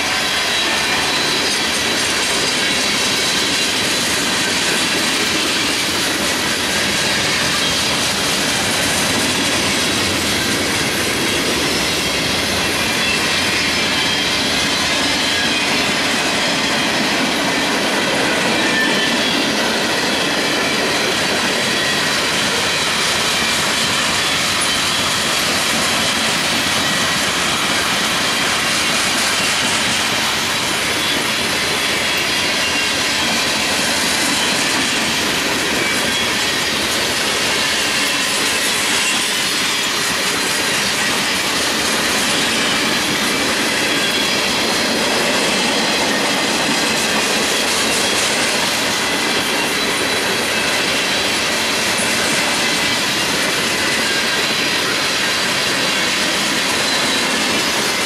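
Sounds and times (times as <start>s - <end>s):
train wheels rumbling on rails: 0.0s - 58.0s
wheels squealing: 0.2s - 58.0s.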